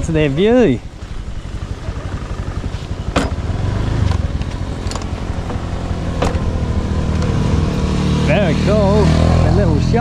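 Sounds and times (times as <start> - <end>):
motorbike engine running: 0.0 - 10.0.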